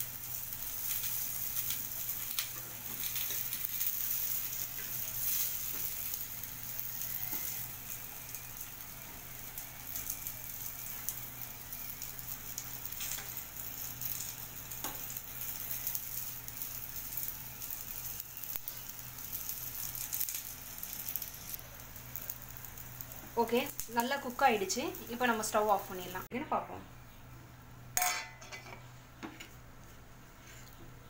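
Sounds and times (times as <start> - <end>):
food sizzling in oil: 0.0 - 26.3.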